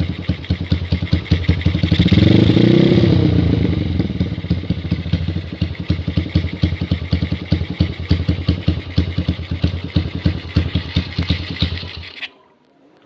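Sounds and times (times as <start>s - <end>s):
motorcycle engine idling unevenly: 0.0s - 12.2s.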